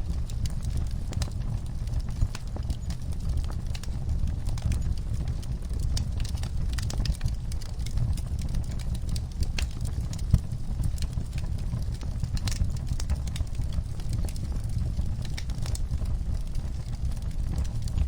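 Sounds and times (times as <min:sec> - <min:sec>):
low rumble of burning fire: 0:00.0 - 0:18.0
wood fire pops and snaps: 0:00.1 - 0:18.0.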